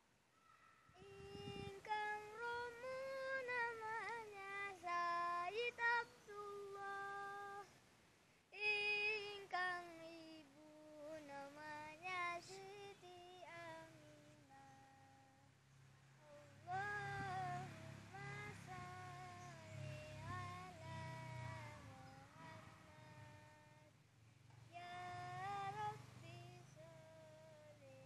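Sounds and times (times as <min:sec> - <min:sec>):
boy singing unaccompanied: 0:01.0 - 0:07.8, 0:08.5 - 0:15.5, 0:16.2 - 0:24.0, 0:24.6 - 0:28.0.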